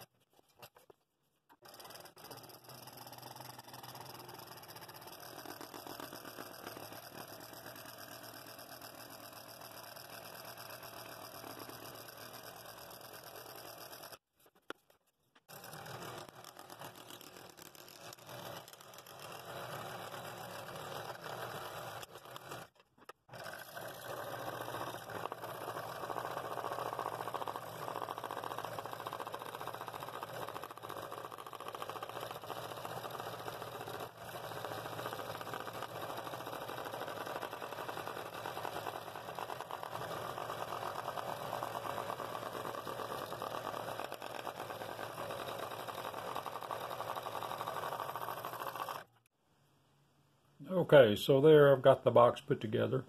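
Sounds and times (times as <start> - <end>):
scroll saw cutting wood: 1.5 - 14.2, 15.4 - 49.3.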